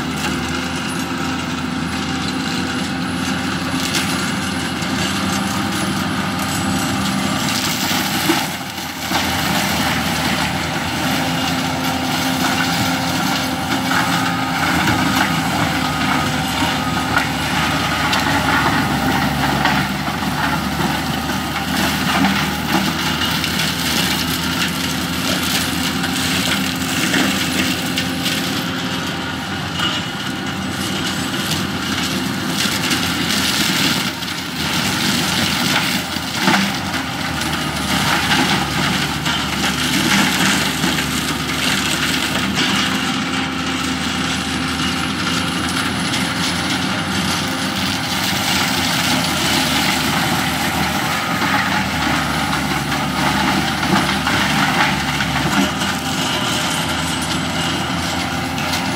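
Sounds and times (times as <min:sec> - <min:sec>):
diesel engine under load: 0:00.0 - 0:58.9
mulcher splintering wood: 0:00.0 - 0:58.9.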